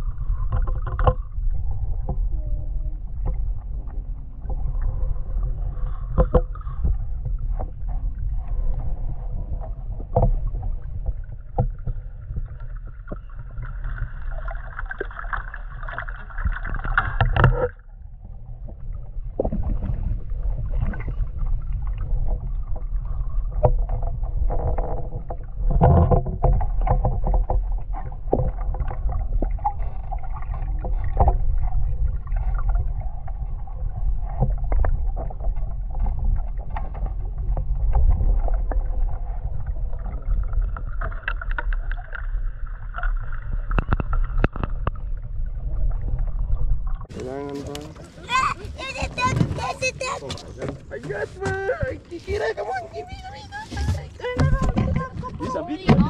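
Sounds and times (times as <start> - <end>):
steady low rumble: 0.0 - 16.6, 17.7 - 51.0
oars splashing and knocking: 0.0 - 56.0.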